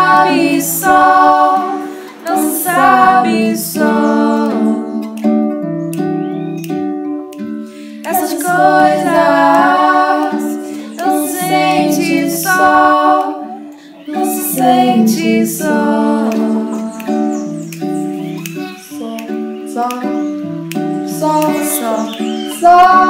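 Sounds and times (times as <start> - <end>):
women singing together: 0.0 - 5.4, 8.0 - 20.4, 21.0 - 23.0.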